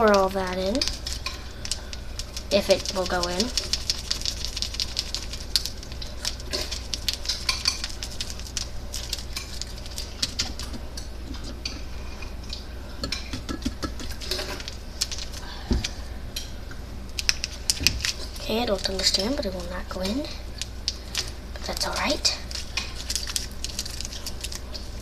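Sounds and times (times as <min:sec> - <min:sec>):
packet crinkling and rustling: 0:00.0 - 0:11.6, 0:13.8 - 0:16.1, 0:17.1 - 0:25.0.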